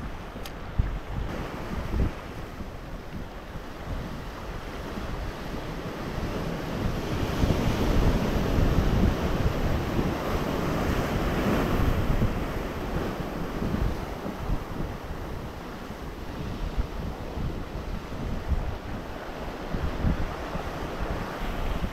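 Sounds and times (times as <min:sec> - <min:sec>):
ocean surf breaking: 0:00.0 - 0:21.9
wind buffeting microphone: 0:00.0 - 0:21.9.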